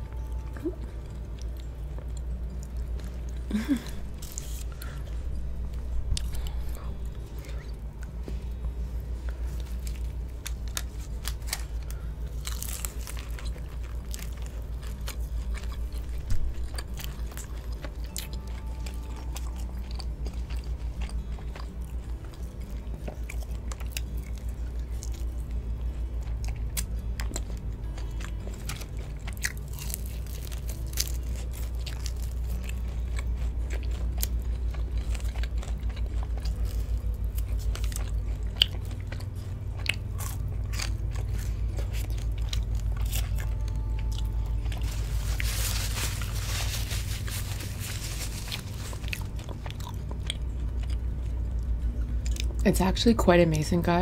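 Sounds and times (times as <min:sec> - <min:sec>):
crunchy chewing of fried chicken: 0:00.0 - 0:52.7
background music: 0:00.0 - 0:54.0.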